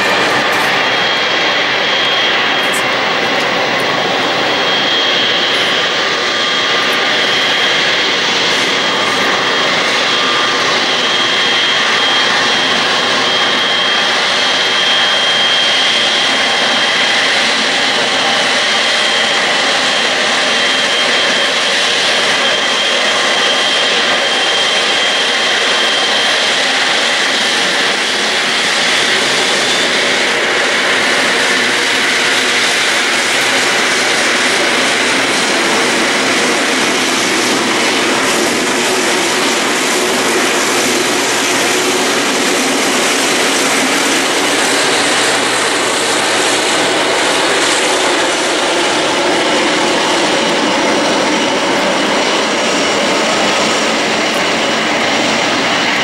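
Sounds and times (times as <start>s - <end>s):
high jet whine: 0.0s - 56.0s
jet engine roar: 0.0s - 56.0s.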